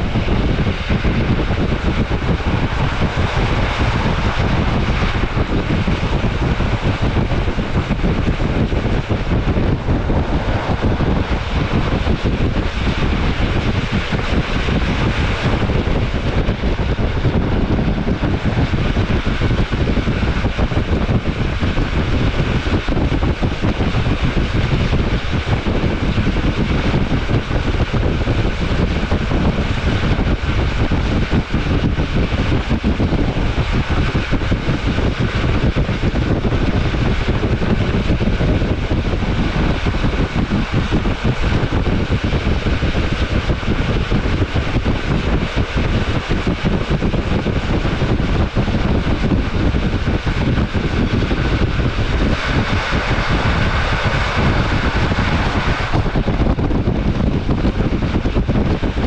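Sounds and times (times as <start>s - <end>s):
rushing air: 0.0s - 59.0s
train wheel-on-rail rumble: 0.0s - 59.0s.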